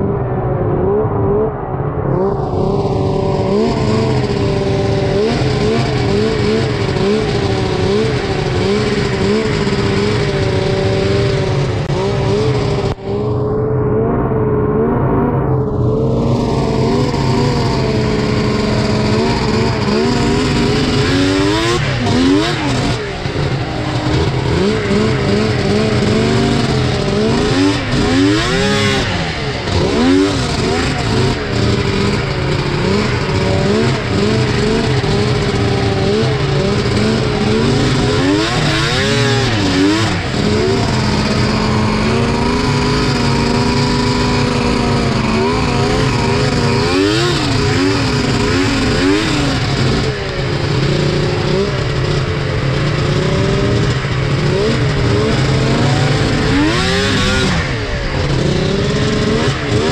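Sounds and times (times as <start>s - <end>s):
snowmobile engines revving: 0.0s - 59.9s.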